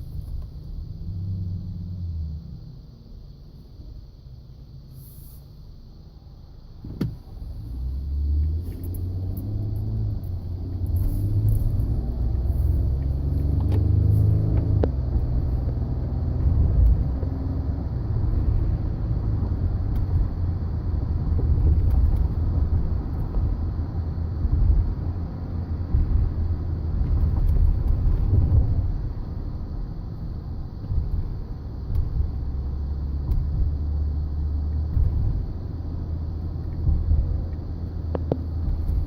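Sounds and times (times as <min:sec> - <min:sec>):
truck engine rumble: 0:07.2 - 0:39.0.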